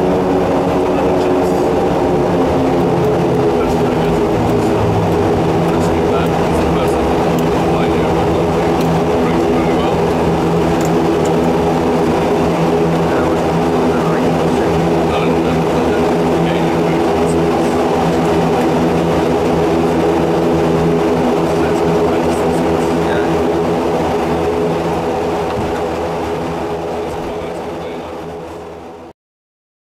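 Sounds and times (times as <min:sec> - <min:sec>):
rushing noise: 0:00.0 - 0:28.4
light aircraft engine hum: 0:00.0 - 0:29.1.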